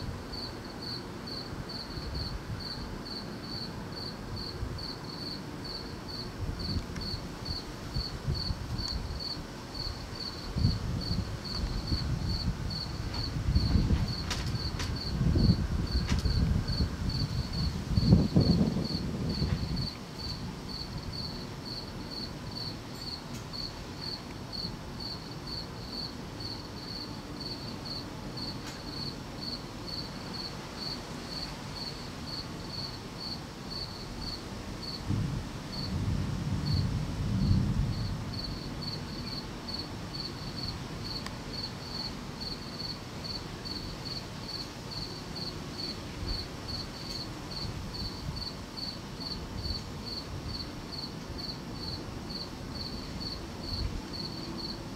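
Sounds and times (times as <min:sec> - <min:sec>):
cricket chirping: 0:00.0 - 0:54.9.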